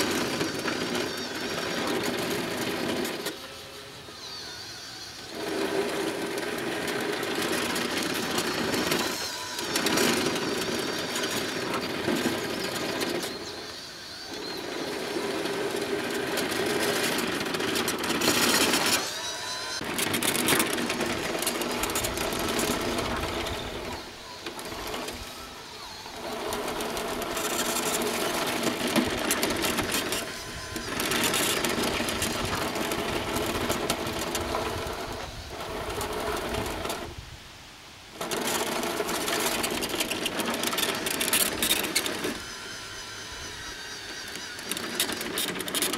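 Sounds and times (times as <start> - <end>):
bulldozer pushing sand: 0.0 - 37.2, 38.1 - 45.9
model bulldozer motors whining: 0.0 - 45.9.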